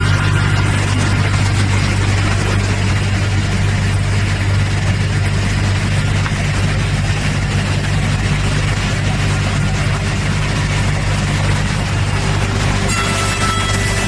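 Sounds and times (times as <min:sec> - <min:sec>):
wood moulder machine running: 0:00.0 - 0:14.0.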